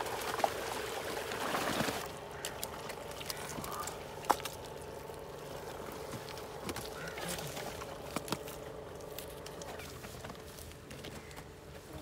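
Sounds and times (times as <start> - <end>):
water sloshing and splashing: 0.0 - 10.6
faint steady hum: 0.0 - 12.0
footsteps in wet mud: 0.0 - 12.0.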